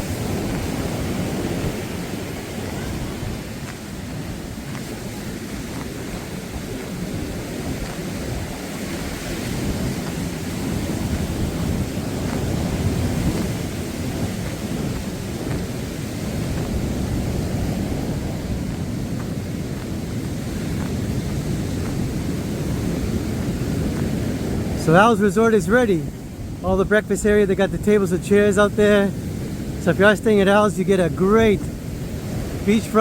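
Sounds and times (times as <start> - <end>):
surf rolling onto beach: 0.0 - 33.0
wind buffeting microphone: 0.0 - 33.0.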